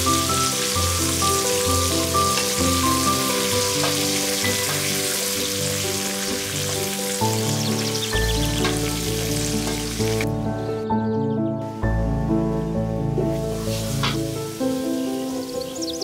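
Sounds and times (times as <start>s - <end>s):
food sizzling in hot oil: 0.0s - 10.3s, 13.3s - 16.0s
music of slow held notes: 0.0s - 16.0s.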